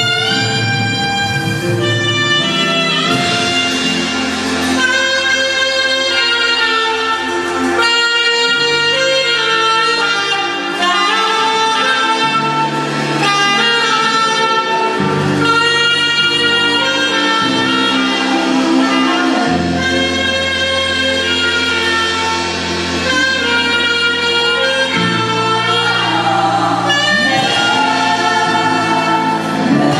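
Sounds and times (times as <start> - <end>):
backing band: 0.0 - 29.9
saxophone melody: 0.0 - 29.9.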